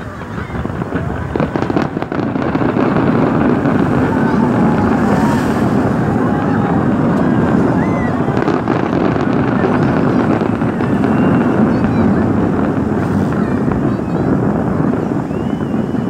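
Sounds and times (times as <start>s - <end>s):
distant fireworks barrage: 0.0s - 16.0s.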